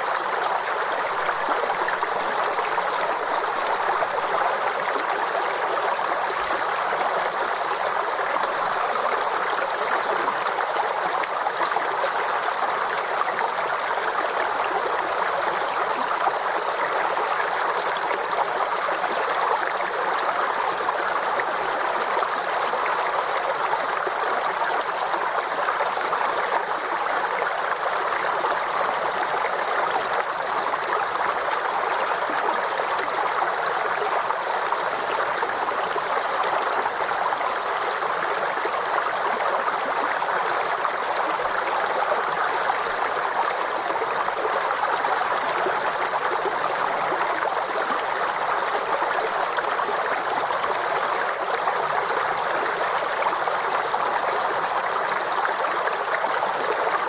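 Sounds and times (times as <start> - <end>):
stream water over stones: 0.0 - 57.0.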